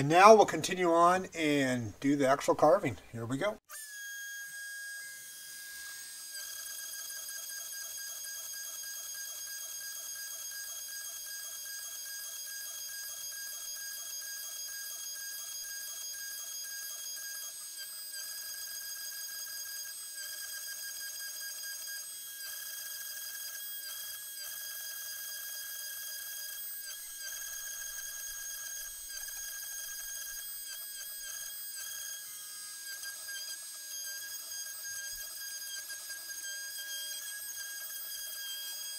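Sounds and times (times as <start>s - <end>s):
router spindle whine: 3.7s - 38.9s.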